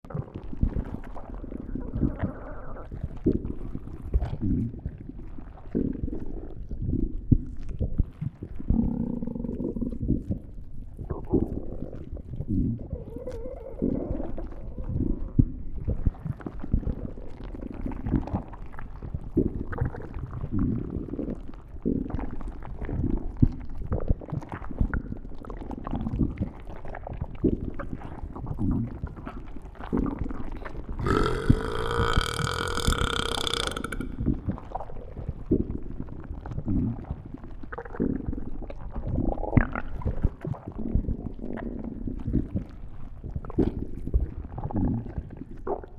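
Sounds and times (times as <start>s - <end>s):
stomach growling and gurgling: 0.0s - 45.9s.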